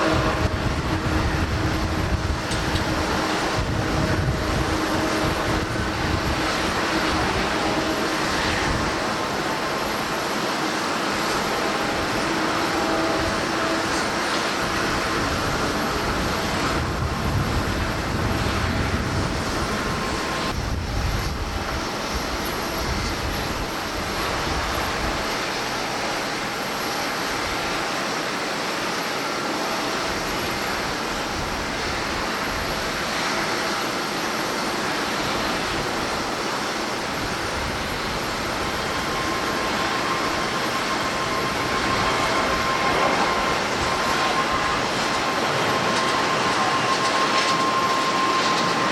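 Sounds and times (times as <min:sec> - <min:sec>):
wind rumbling on microphone: 0:00.0 - 0:26.6, 0:29.3 - 0:48.9
jet engine noise: 0:00.0 - 0:48.9.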